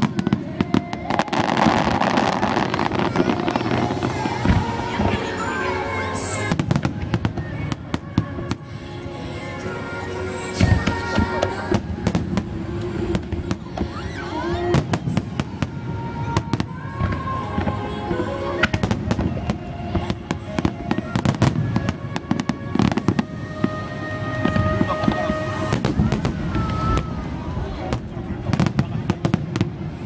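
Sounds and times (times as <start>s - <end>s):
fireworks bangs and crackles: 0.0s - 9.2s, 10.4s - 30.0s
music from loudspeakers: 0.0s - 27.3s.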